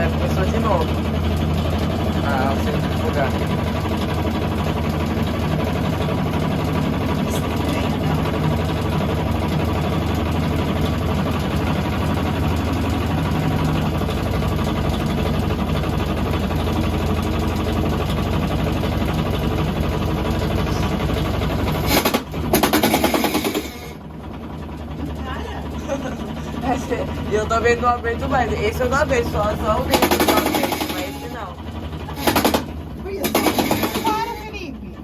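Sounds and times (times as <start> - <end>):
fast rattling: 0.0 - 34.7
washing machine spinning: 0.0 - 35.0.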